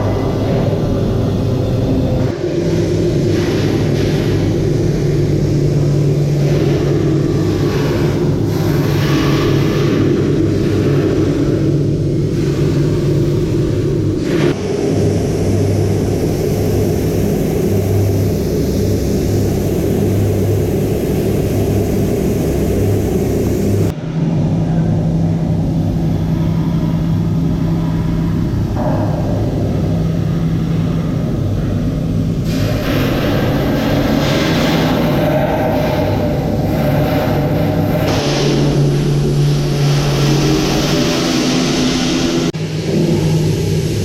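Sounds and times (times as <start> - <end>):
welding machine humming and hissing: 0.0 - 23.9, 25.7 - 42.5.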